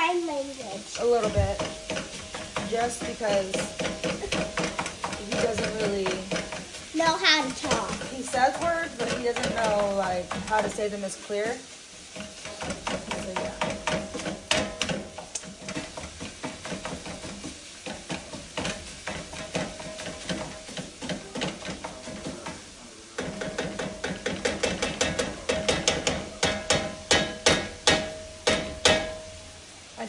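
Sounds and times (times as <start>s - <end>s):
meat masher tapping a skillet: 0.0s - 29.5s.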